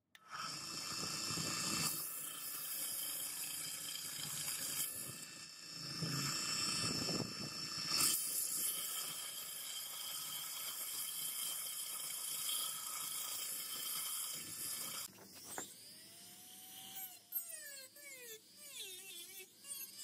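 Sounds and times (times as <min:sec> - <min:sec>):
rotary tool whirring: 0:00.2 - 0:20.0.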